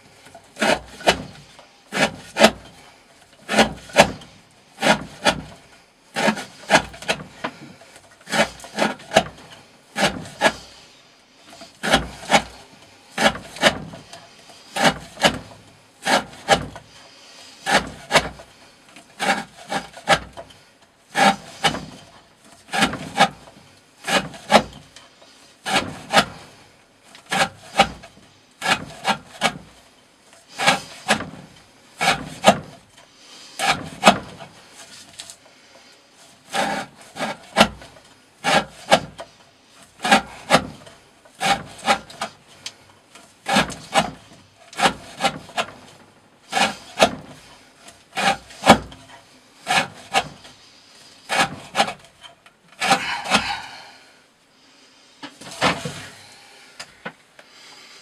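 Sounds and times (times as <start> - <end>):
knife rasping through rope: 0.2 - 10.8, 11.4 - 35.4, 36.2 - 54.0.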